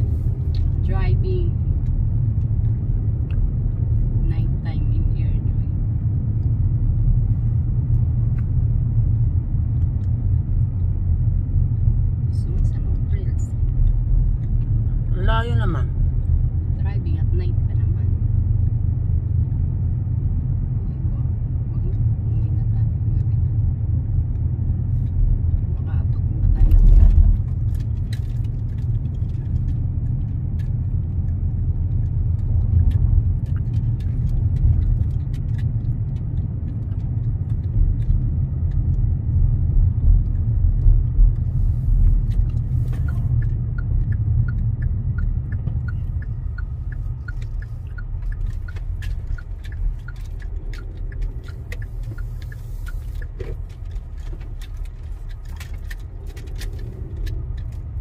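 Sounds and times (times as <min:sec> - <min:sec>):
car road noise rumble: 0:00.0 - 0:58.0
turn signal ticking: 0:00.0 - 0:58.0.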